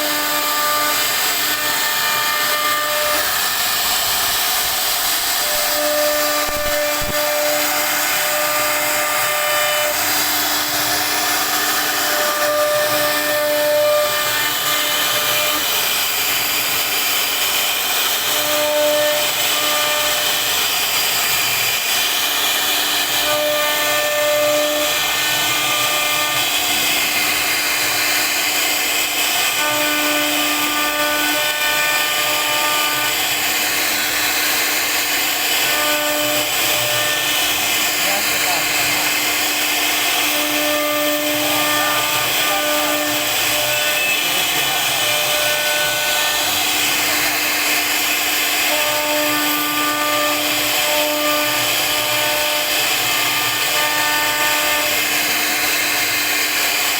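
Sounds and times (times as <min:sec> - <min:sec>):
router spindle cutting wood: 0:00.0 - 0:56.9.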